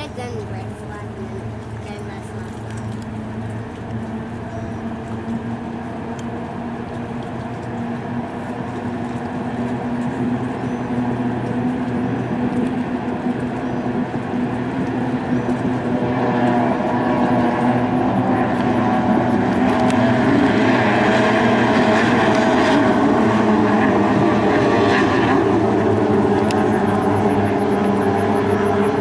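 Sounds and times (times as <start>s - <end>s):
racing boat engine drone: 0.0s - 29.0s.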